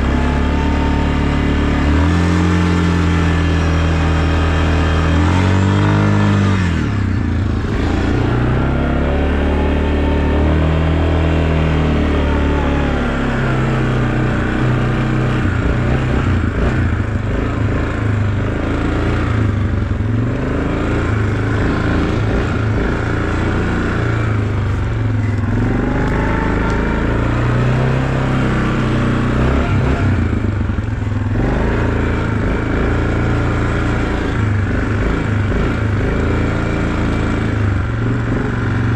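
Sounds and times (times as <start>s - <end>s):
vehicle engine accelerating: 0.0s - 38.9s.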